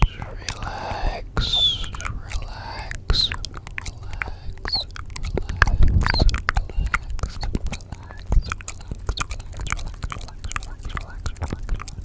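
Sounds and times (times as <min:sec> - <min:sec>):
wet mouth clicks and smacks: 0:00.0 - 0:12.0.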